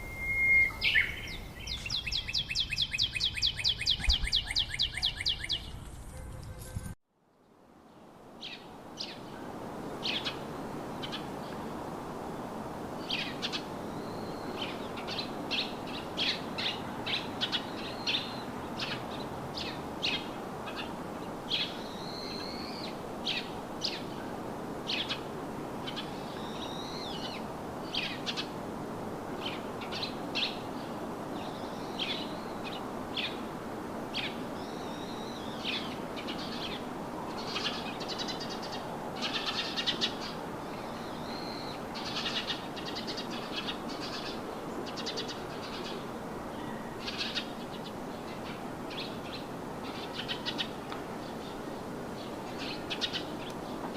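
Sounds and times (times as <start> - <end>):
wild birds chirping: 0.0 - 5.9, 7.4 - 53.9
rushing outdoor background noise: 0.0 - 53.9.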